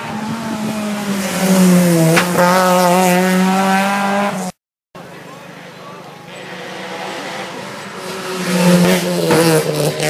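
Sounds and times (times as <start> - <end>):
rally car engine passing: 0.0 - 4.5, 5.5 - 10.0.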